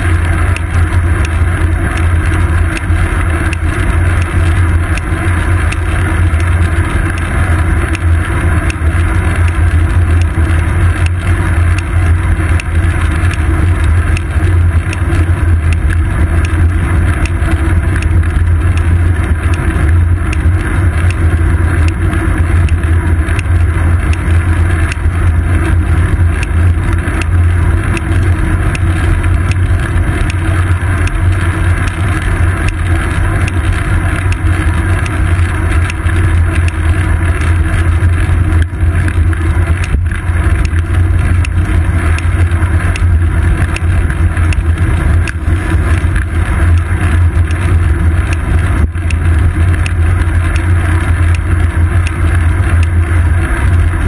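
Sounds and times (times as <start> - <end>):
low road rumble: 0.0 - 54.0.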